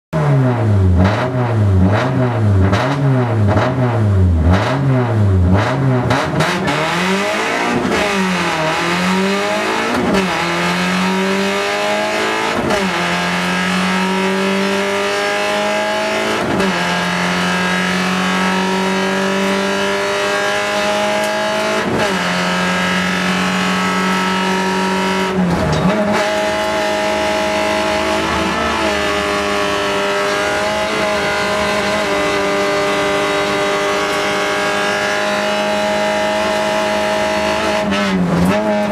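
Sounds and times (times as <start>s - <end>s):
car engine revving through gears: 0.2s - 38.9s.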